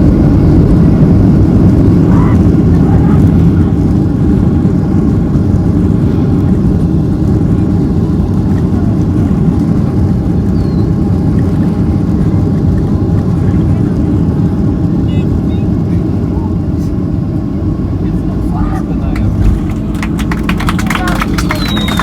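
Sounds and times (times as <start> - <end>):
airplane cabin rumble while taxiing: 0.0 - 22.0.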